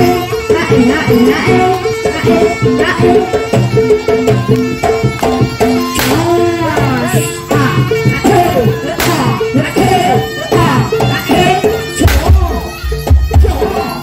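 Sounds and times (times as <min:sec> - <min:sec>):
hand drums beating: 0:00.0 - 0:14.0
wavering melody line: 0:00.0 - 0:14.0.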